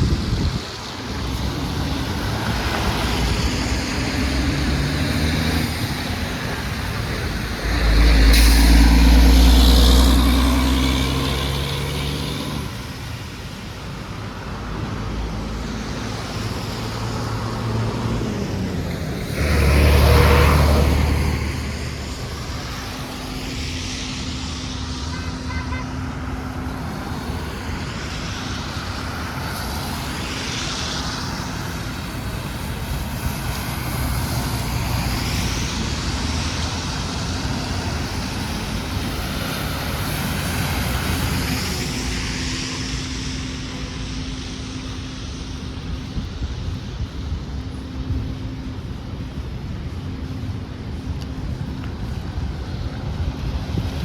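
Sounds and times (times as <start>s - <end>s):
engine rumble: 0.0s - 54.0s
vehicles hissing past: 0.0s - 54.0s.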